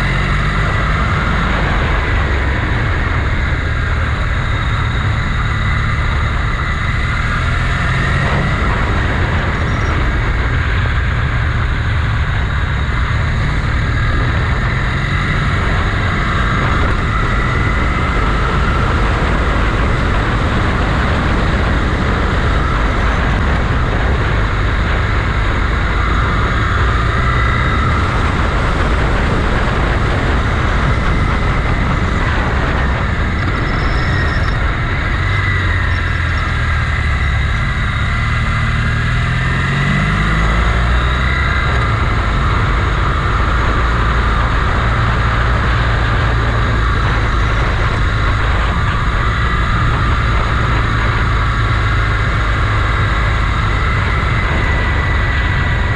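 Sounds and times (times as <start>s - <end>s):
motorcycle engine running: 0.0s - 55.9s
road and wind noise: 0.0s - 55.9s.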